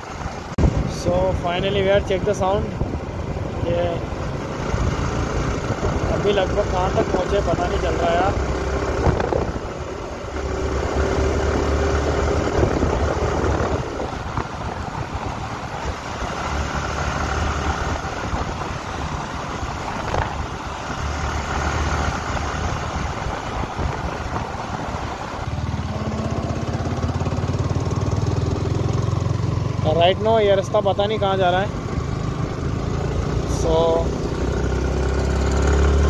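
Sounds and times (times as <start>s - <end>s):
wind rush on microphone: 0.0s - 30.3s
motorcycle engine running: 0.0s - 36.0s.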